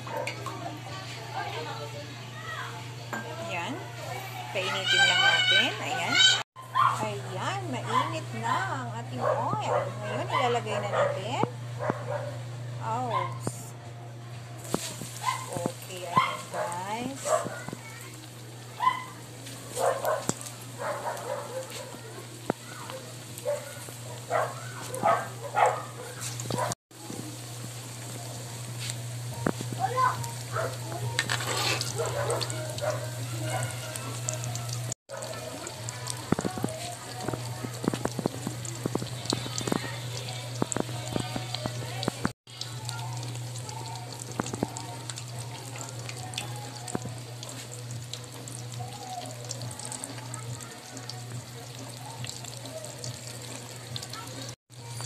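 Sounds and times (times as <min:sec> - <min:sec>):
food frying in hot oil: 0:00.0 - 0:06.4, 0:14.6 - 0:55.0.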